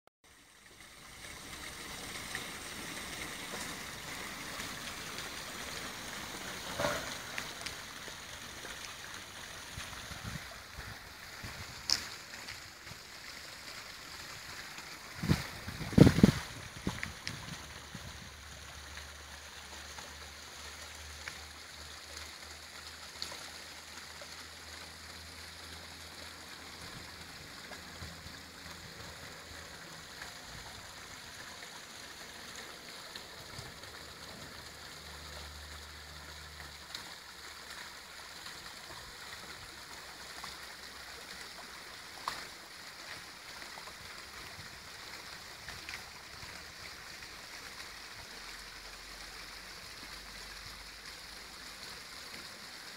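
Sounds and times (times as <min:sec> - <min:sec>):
waterfall splashing into pool: 0:00.3 - 0:52.9.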